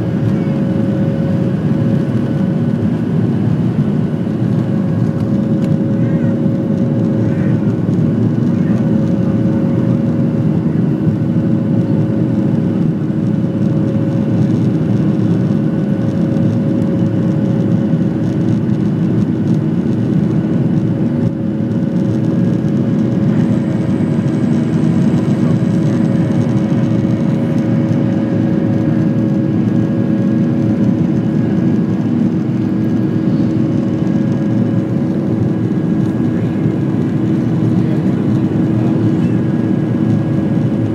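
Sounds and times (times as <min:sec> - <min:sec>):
jet engines roaring: 0:00.0 - 0:40.9
steady engine tones: 0:00.0 - 0:40.9.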